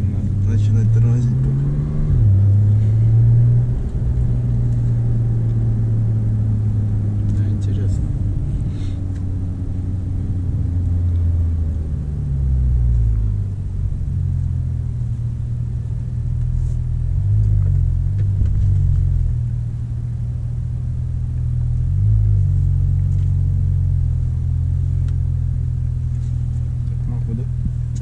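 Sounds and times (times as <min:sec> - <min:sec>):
car engine droning: 0:00.0 - 0:28.0.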